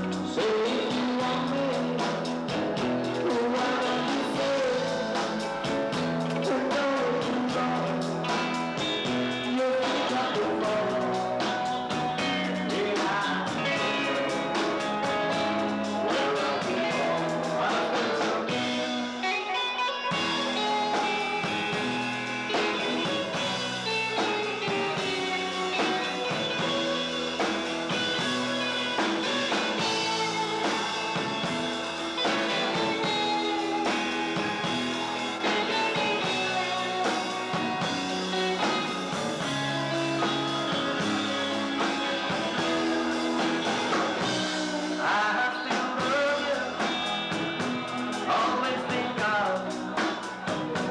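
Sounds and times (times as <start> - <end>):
gliding lead guitar: 0.0 - 50.9
rock band music: 0.0 - 50.9.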